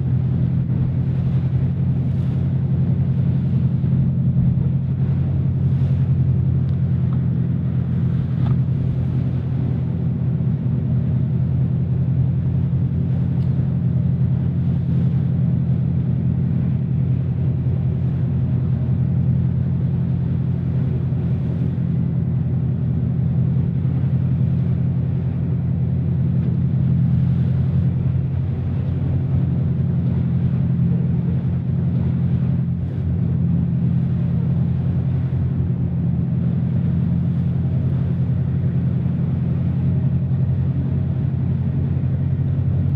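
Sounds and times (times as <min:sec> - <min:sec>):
boat engine droning: 0:00.0 - 0:42.9.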